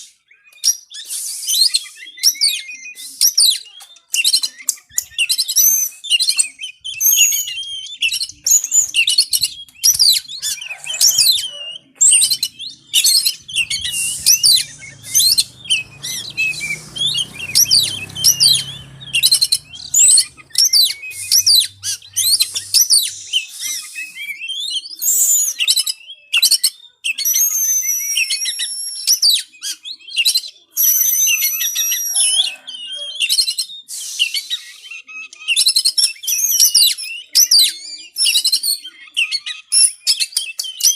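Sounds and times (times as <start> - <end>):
bird singing chirps and whistles: 0.0 - 40.9.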